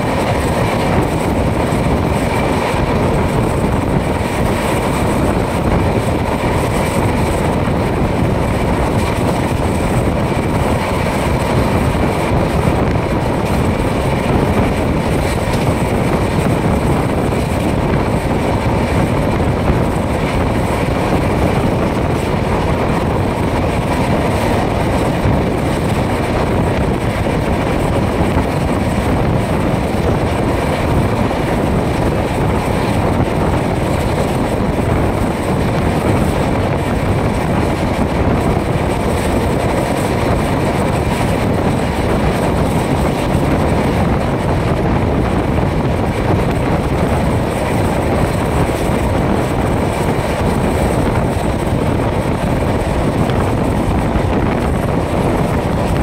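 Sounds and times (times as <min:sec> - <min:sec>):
train wheels on rails: 0:00.0 - 0:56.0
wind rushing: 0:00.0 - 0:56.0.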